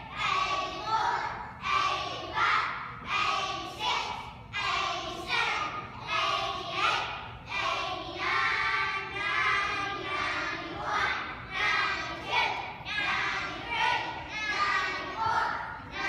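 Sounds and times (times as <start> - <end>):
children chanting in unison: 0.0 - 16.0.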